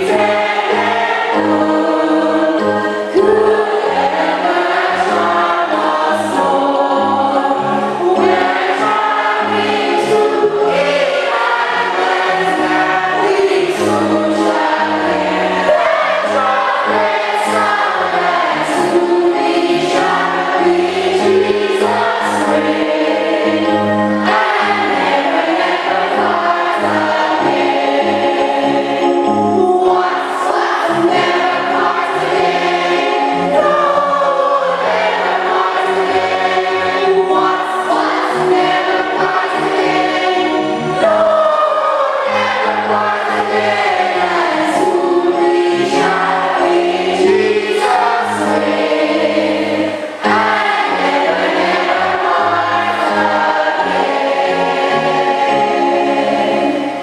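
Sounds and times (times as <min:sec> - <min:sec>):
choir singing gospel music: 0:00.0 - 0:57.0.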